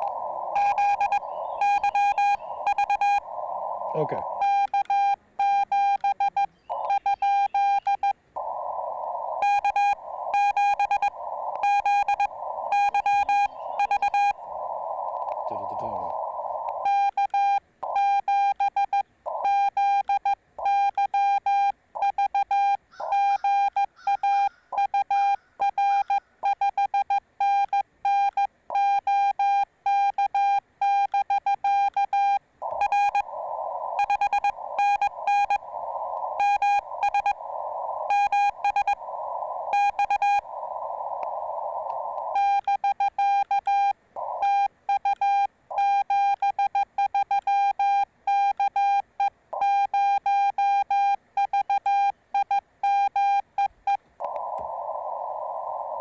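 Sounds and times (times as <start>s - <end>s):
morse code beeping: 0.0s - 40.7s, 42.2s - 54.0s
receiver hiss: 0.0s - 56.0s.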